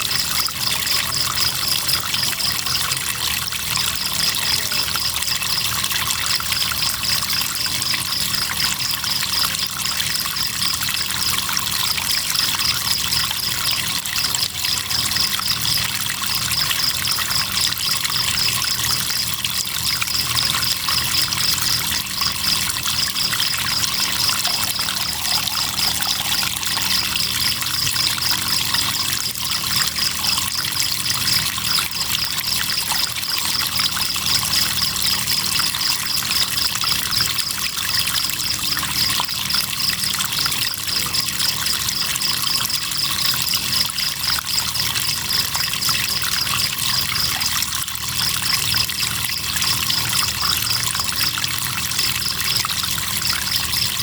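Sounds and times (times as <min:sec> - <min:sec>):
crickets chirping: 0:00.0 - 0:54.0
river water trickling: 0:00.0 - 0:54.0.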